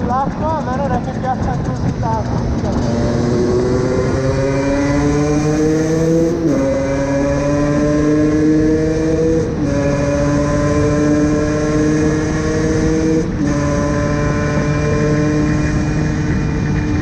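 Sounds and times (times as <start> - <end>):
motorcycle engine revving: 0.0 - 17.0
wind and road rush: 0.0 - 17.0.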